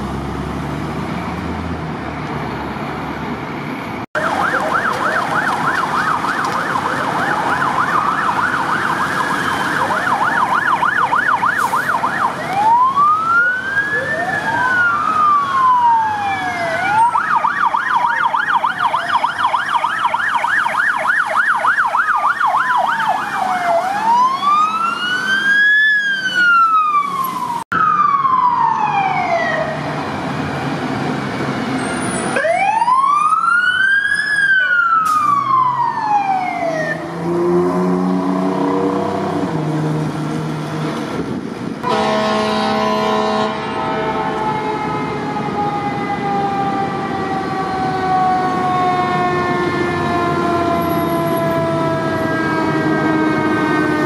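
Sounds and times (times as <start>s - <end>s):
fire truck siren: 4.1s - 54.0s.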